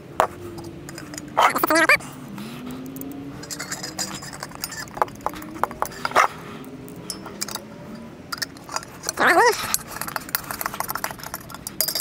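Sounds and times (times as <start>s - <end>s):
faint wavering hum: 0.0s - 12.0s
metal clicks and clinks: 0.5s - 1.4s, 2.8s - 12.0s.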